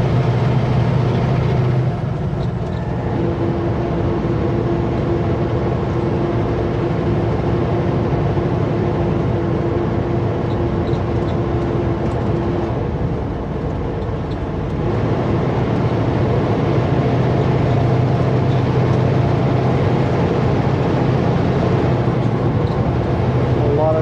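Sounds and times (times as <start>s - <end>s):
truck diesel engine from inside cab: 0.0s - 24.0s.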